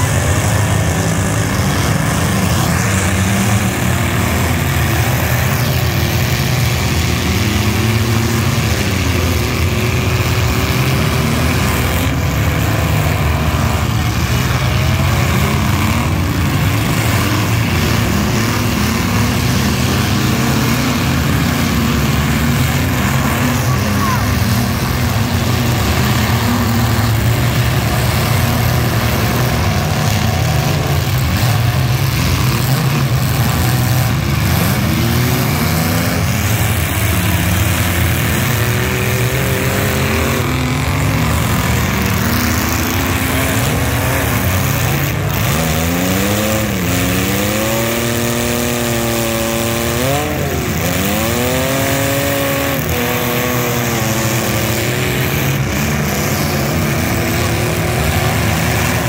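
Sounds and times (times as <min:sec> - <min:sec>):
car engines rumbling and revving: 0:00.0 - 0:59.0.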